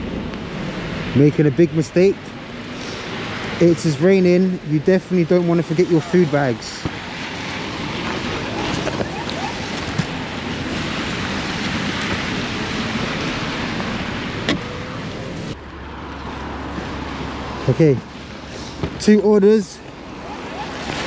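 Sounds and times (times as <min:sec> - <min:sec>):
tyres on wet road: 0:00.0 - 0:21.0.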